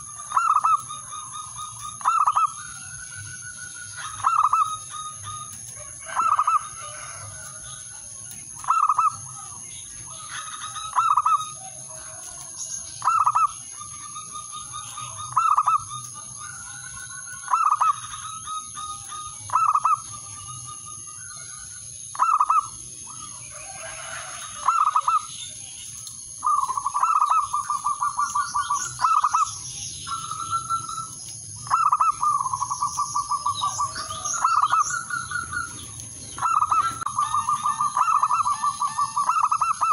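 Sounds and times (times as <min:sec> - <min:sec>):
dove cooing: 0:00.0 - 0:07.5, 0:08.6 - 0:25.3, 0:26.4 - 0:39.9
dove trilling: 0:00.0 - 0:39.9.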